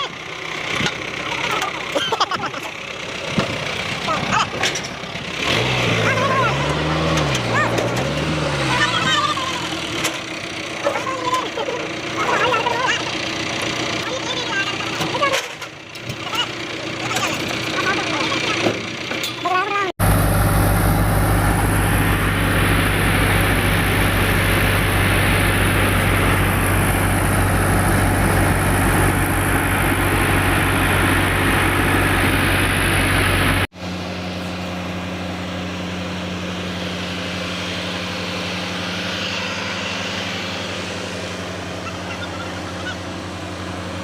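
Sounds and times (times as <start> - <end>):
thresher rushing whirr: 0.0 - 44.0
tractor engine droning: 0.0 - 44.0.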